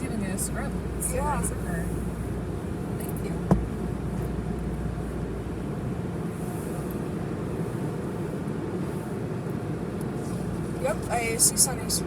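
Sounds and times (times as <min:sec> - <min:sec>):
car wash machinery rumble: 0:00.0 - 0:12.0.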